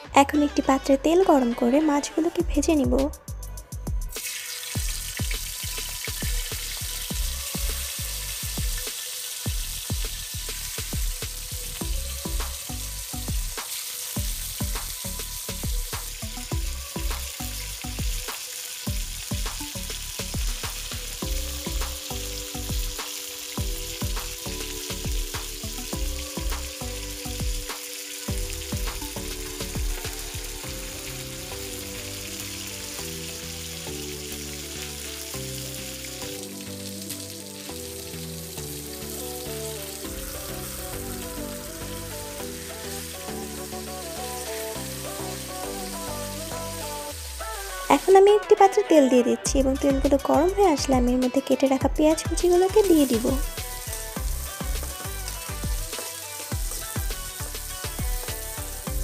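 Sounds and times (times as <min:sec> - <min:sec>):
oil spitting crackles: 0:04.1 - 0:48.1, 0:52.9 - 0:59.0
fish sizzling in hot oil: 0:04.1 - 0:50.9, 0:52.1 - 0:59.0.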